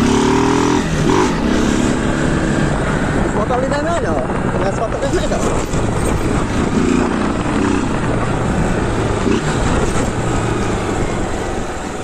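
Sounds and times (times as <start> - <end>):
wind rumble on microphone: 0.7 - 12.0.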